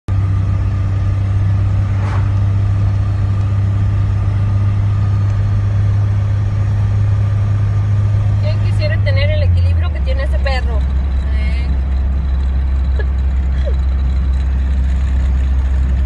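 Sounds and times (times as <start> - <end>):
vehicle engine drone: 0.1 - 16.0.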